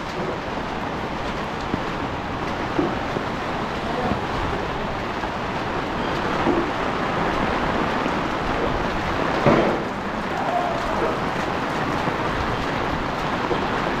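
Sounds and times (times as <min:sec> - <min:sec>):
rain drumming on an umbrella: 0:00.0 - 0:14.0
rain splashing on wet street: 0:00.0 - 0:14.0.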